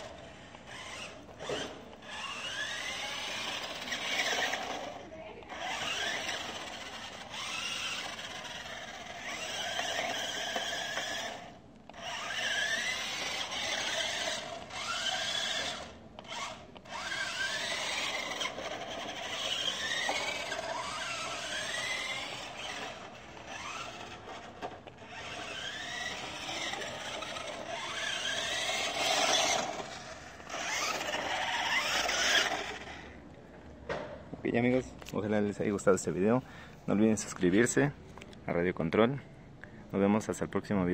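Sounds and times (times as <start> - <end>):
toy truck motor whining: 0.0 - 33.2.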